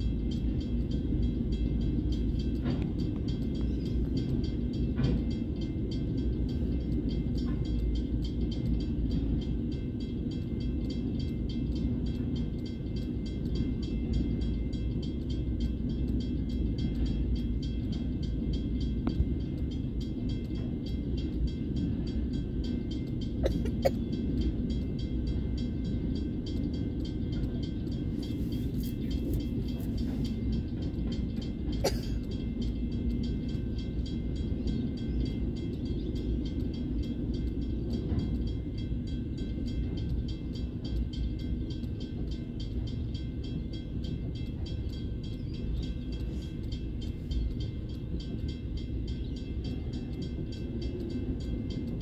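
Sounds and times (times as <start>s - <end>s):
steel wheels rumbling on rails: 0.0s - 52.0s.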